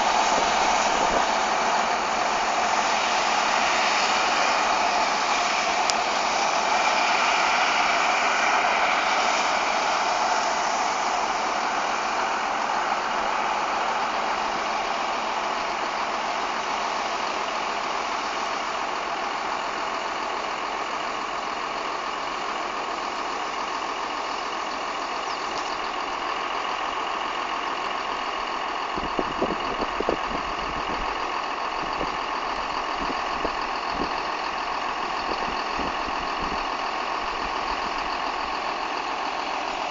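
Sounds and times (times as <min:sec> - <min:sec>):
farm machinery droning: 0:00.0 - 0:39.9.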